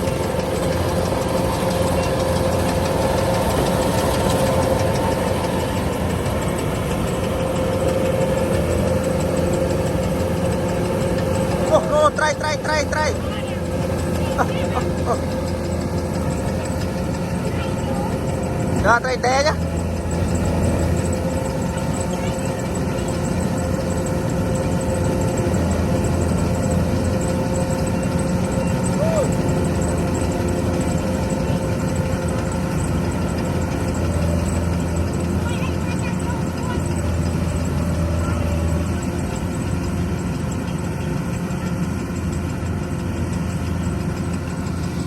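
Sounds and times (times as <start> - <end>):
engine running with whine: 0.0 - 45.0.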